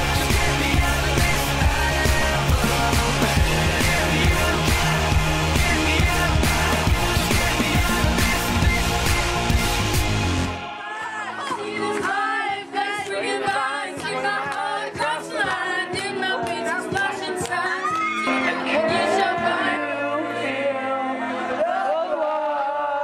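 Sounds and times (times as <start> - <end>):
karaoke backing track: 0.0 - 23.0
teens singing into microphones: 0.0 - 23.0.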